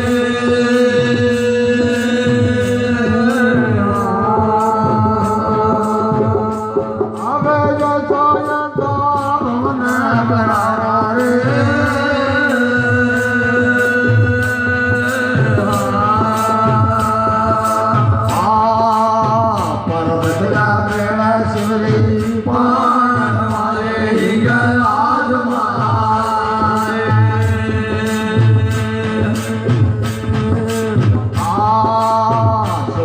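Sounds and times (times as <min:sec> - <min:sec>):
percussion steady beat: 0:00.0 - 0:33.0.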